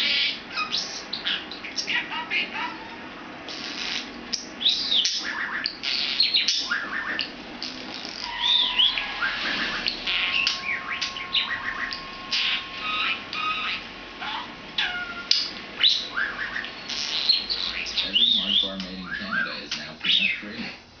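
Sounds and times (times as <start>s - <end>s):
budgerigar chattering and warbling: 0.0s - 20.7s.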